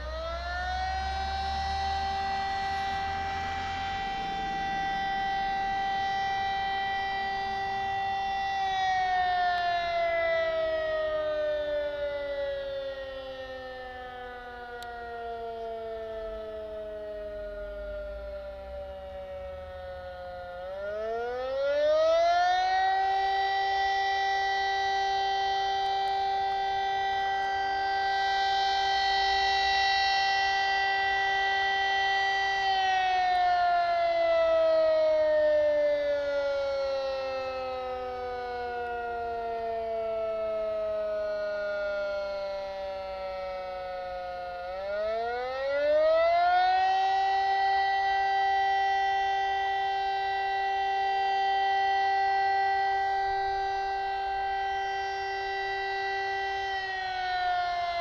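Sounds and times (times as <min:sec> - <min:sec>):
fire siren wailing: 0:00.0 - 0:58.0.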